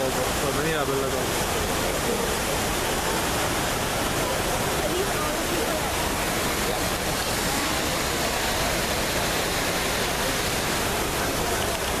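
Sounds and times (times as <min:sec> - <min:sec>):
cascading water roar: 0:00.0 - 0:12.0.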